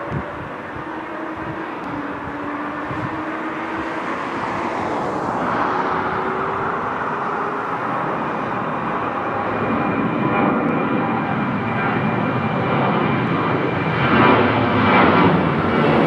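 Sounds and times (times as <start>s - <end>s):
jet engine roar overhead: 0.0s - 16.0s.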